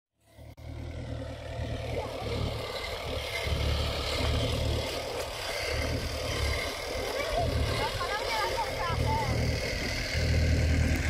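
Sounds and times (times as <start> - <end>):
loader engine running: 0.2 - 11.0
low rumble: 0.2 - 11.0.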